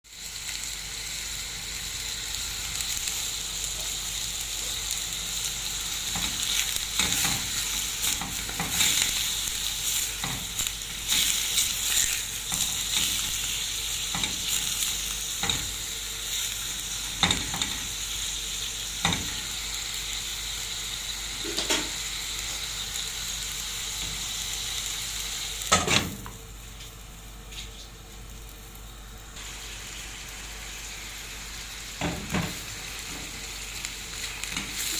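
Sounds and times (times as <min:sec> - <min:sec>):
food sizzling in a pan: 0:00.0 - 0:34.9.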